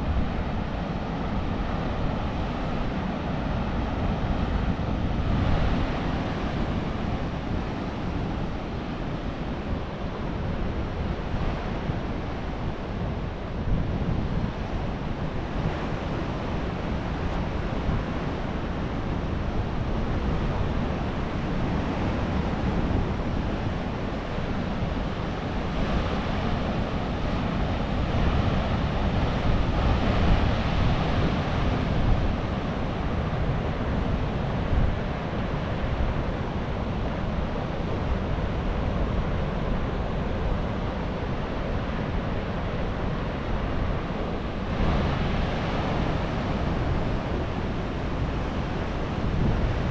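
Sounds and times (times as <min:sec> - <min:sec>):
wind rumbling on microphone: 0:00.0 - 0:49.9.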